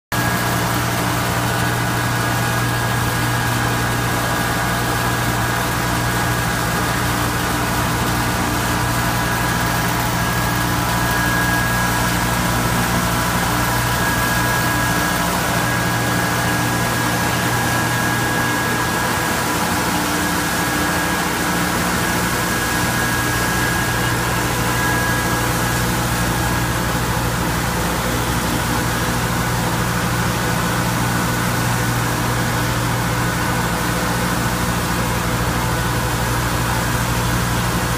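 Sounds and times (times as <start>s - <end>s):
high machine whine: 0.2s - 37.9s
machinery low hum: 0.2s - 37.9s.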